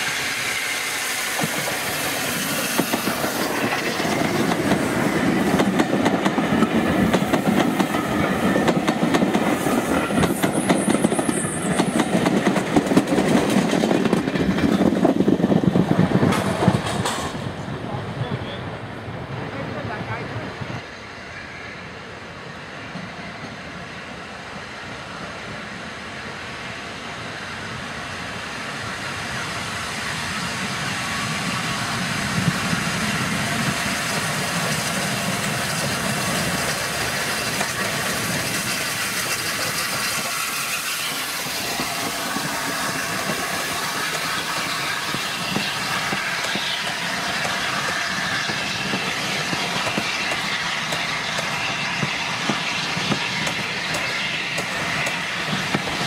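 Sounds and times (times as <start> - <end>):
steam locomotive passing: 0.0 - 56.0
train wheels rumbling on rails: 0.0 - 56.0.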